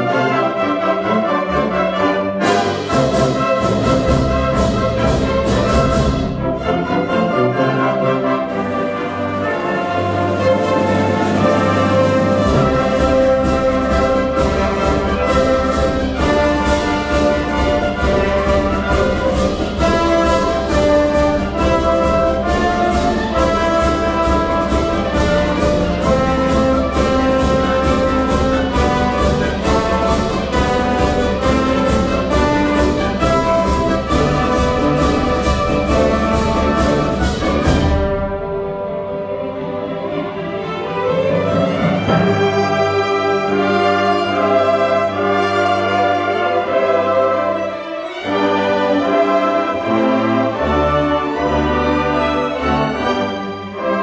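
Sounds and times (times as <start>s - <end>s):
brass section: 0.0s - 54.0s
orchestra playing carol medley: 0.0s - 54.0s.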